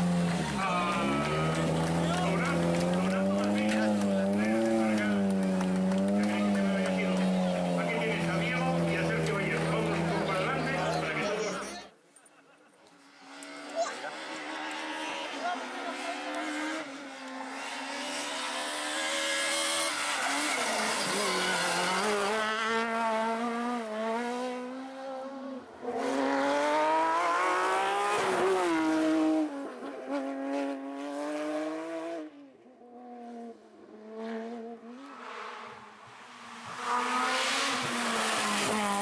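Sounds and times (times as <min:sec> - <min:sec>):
rally car engine revving: 0:00.0 - 0:11.8, 0:13.1 - 0:39.0.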